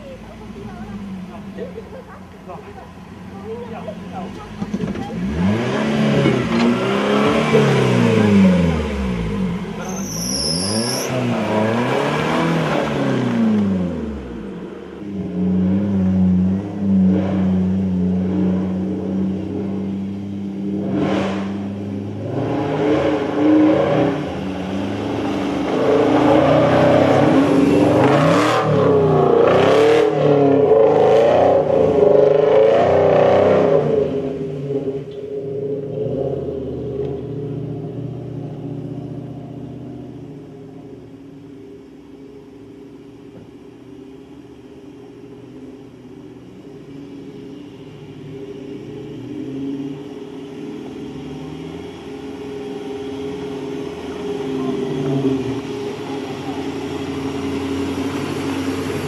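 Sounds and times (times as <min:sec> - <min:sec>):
engine revving: 0:03.8 - 0:40.3, 0:48.0 - 0:59.0.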